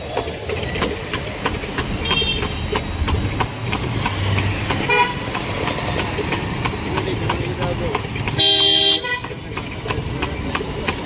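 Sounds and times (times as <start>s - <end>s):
cart clattering and rattling: 0.0s - 11.0s
horse hooves clopping on road: 0.0s - 11.0s
low traffic noise: 0.0s - 11.0s.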